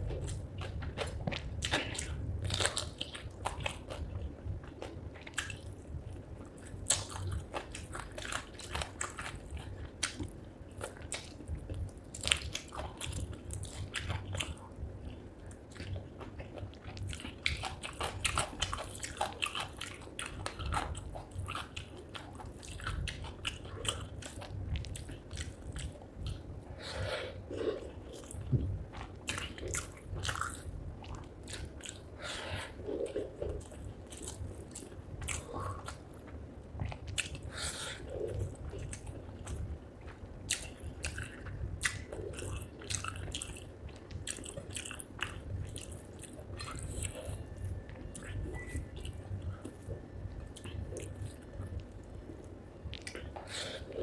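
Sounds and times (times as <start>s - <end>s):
wet chewing and crunching: 0.0s - 54.0s.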